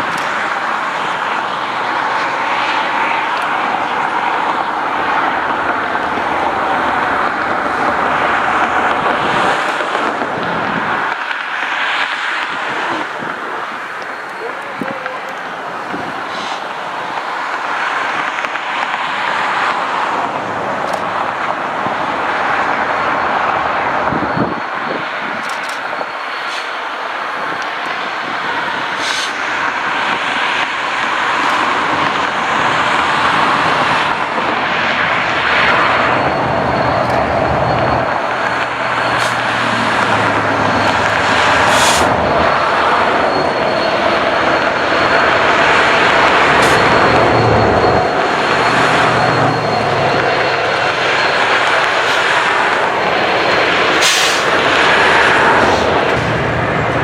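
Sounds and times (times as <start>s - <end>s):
train rushing rumble: 0.0s - 57.0s.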